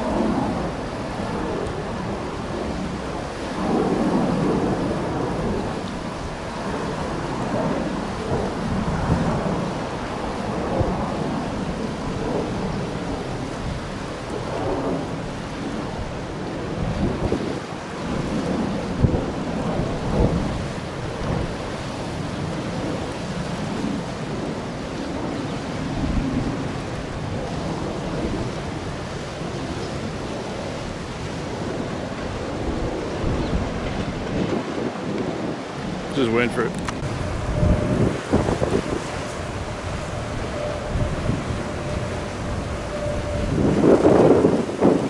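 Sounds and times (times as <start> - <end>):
gusty wind buffeting microphone: 0.0 - 45.0.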